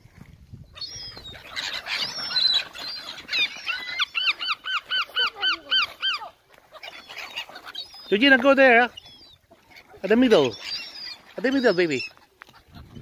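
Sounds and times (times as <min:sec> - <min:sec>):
gulls and waterbirds calling: 0:00.0 - 0:13.0
bird repeated call notes: 0:00.8 - 0:12.2.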